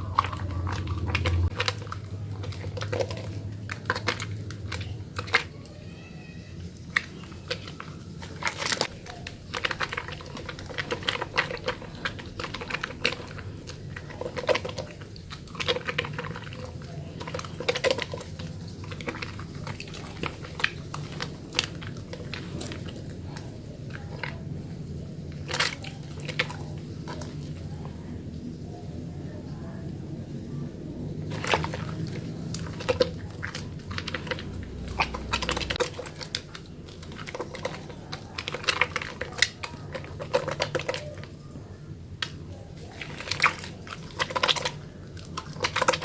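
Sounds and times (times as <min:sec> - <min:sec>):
wet soap squelching: 0:00.0 - 0:46.0.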